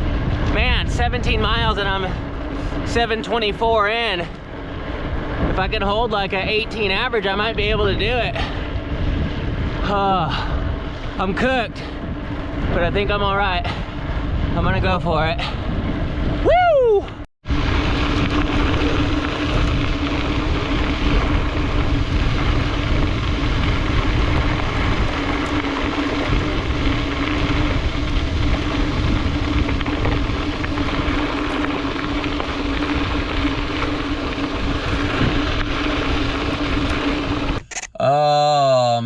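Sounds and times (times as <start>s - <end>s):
wind rushing over microphone: 0.0s - 37.7s
bicycle tyre noise: 0.0s - 37.8s
steady hum: 0.0s - 39.0s.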